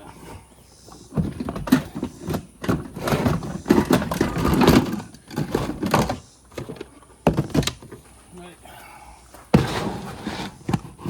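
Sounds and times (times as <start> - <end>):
objects handled in boxes: 0.0 - 8.6, 9.2 - 11.0.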